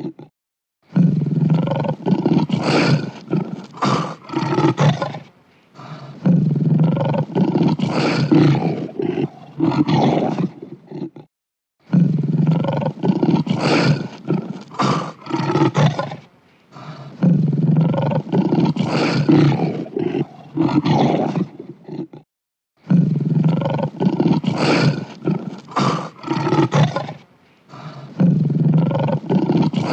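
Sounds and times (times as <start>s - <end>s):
lion roaring: 0.0s - 0.3s, 0.9s - 11.3s, 11.9s - 16.2s, 16.8s - 22.2s, 22.8s - 29.9s.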